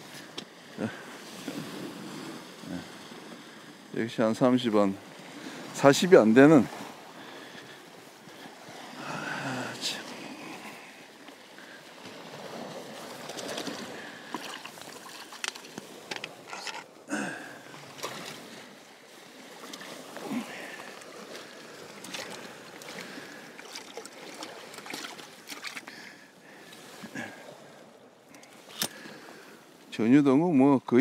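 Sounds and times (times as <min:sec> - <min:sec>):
water lapping against rocks: 0:00.0 - 0:30.0.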